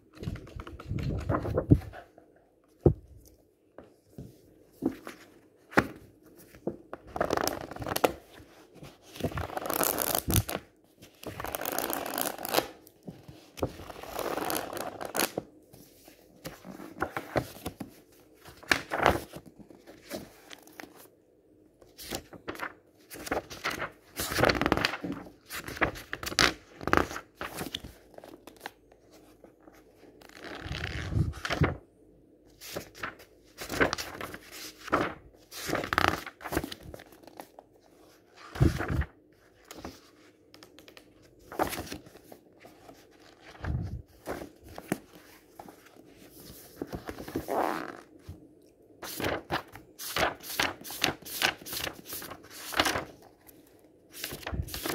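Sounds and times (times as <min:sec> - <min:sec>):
book pages riffled: 0:00.0 - 0:02.2, 0:04.2 - 0:21.1, 0:22.0 - 0:29.4, 0:32.6 - 0:37.6, 0:38.3 - 0:40.2, 0:41.4 - 0:48.4, 0:49.0 - 0:53.3, 0:54.1 - 0:54.9.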